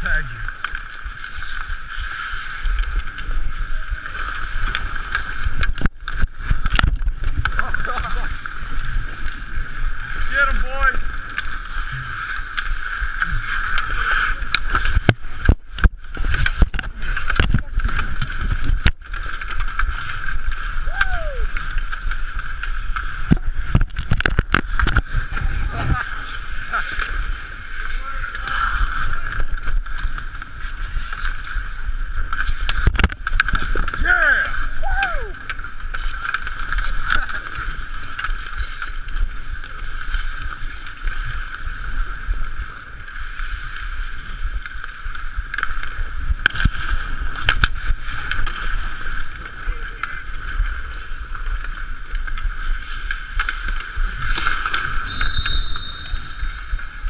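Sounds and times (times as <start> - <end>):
rumble of ice skates: 0.0 - 57.0.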